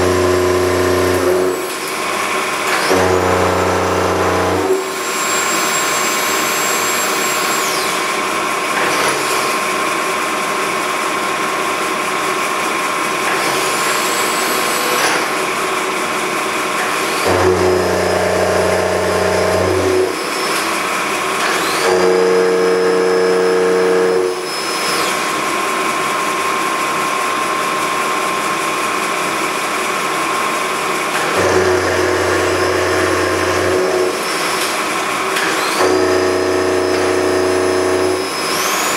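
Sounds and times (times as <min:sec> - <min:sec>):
milling machine whine: 0:00.0 - 0:38.9.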